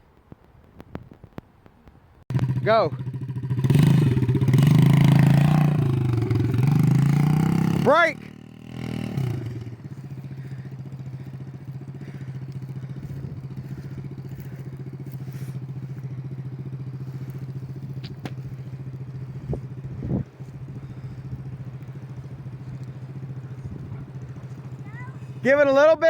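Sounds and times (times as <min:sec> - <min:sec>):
dirt bike engine idling: 0:02.3 - 0:26.0.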